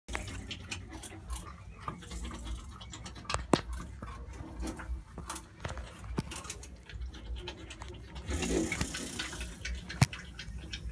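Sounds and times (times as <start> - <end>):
porcupine clicks and scratches: 0.1 - 10.9.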